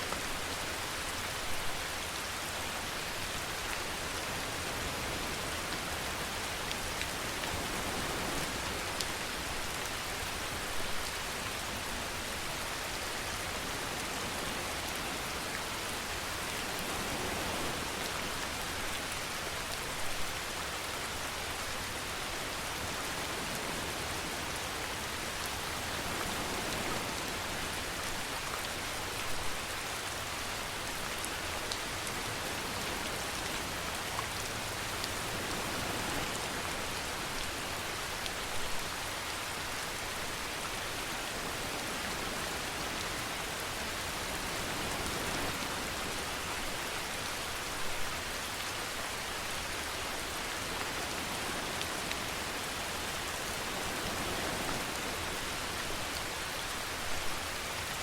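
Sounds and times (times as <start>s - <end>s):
rain hissing on a surface: 0.0s - 58.0s.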